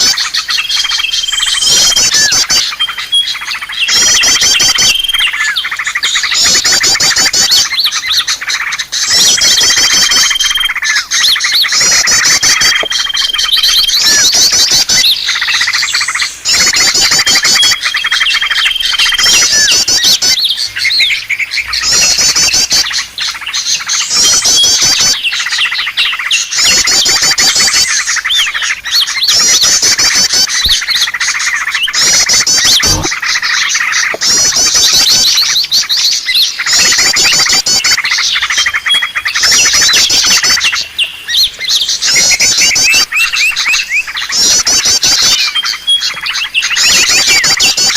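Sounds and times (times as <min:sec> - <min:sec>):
songbirds chirping and trilling: 0:00.0 - 0:47.9.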